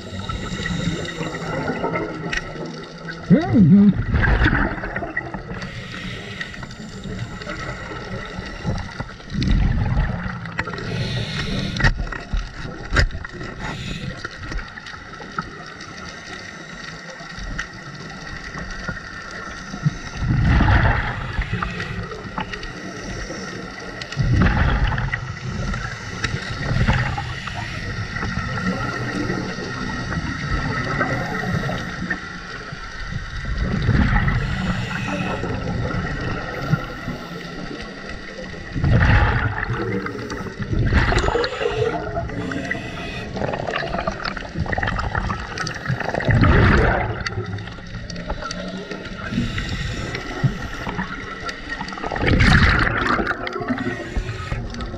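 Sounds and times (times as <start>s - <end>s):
gurgling exhaled bubbles: 0.0s - 54.9s
underwater background noise: 0.0s - 54.9s.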